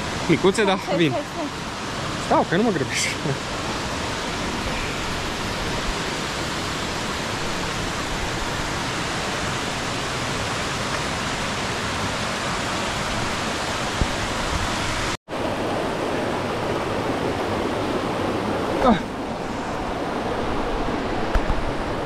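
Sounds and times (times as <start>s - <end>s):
stream cascades rushing: 0.0s - 22.0s.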